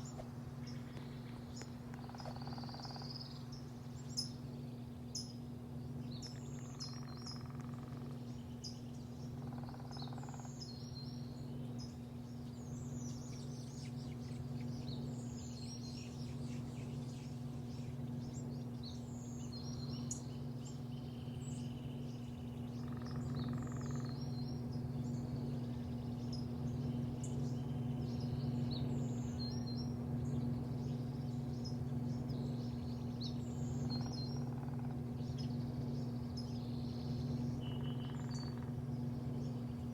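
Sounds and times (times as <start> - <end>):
low machine hum: 0.0 - 39.9
small birds chirping: 0.0 - 39.9.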